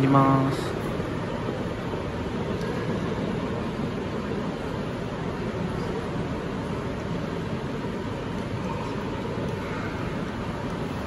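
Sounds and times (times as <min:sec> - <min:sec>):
railway station hall din: 0:00.0 - 0:11.0.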